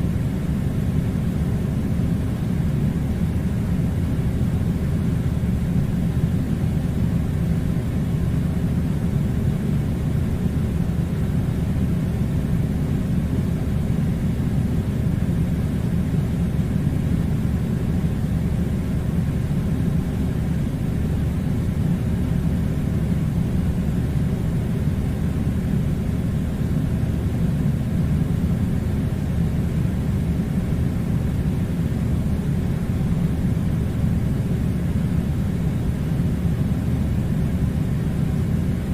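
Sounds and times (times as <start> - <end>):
air conditioner running: 0.0 - 38.9.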